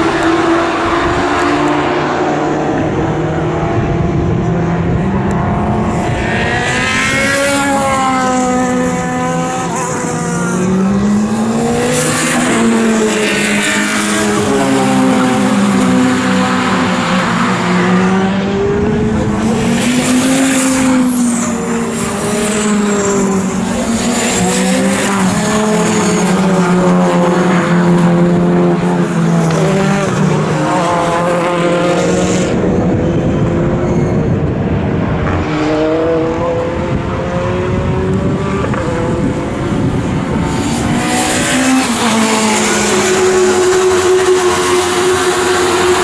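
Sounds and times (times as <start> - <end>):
racing car engines: 0.0 - 46.0.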